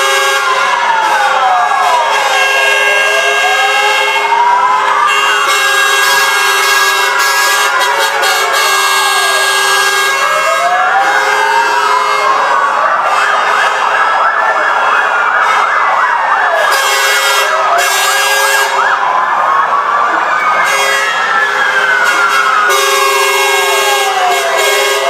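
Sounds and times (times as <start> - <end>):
fire truck sirens wailing: 0.0 - 25.0
siren fast yelp: 0.0 - 25.0.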